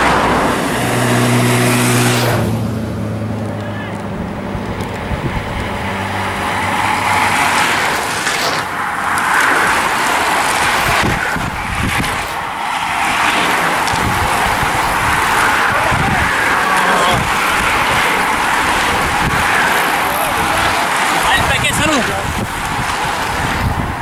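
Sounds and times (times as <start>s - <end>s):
bicycles whirring past: 0.0s - 24.0s.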